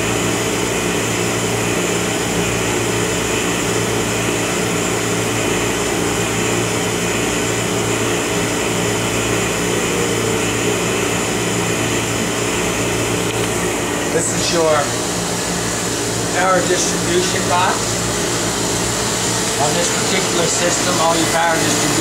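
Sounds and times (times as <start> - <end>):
vacuum pumps humming: 0.0 - 22.0.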